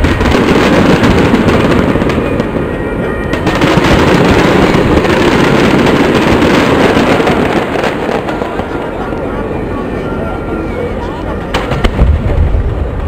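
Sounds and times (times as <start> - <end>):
fireworks crackling and popping: 0.0 - 9.3, 11.5 - 13.0.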